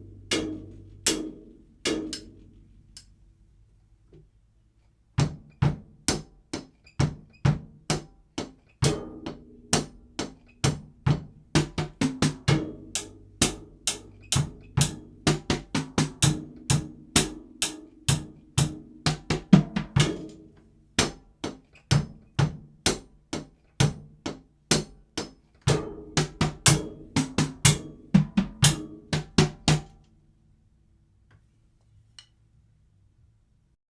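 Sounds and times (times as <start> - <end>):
drum kit groove: 0.0 - 2.6, 5.2 - 30.0.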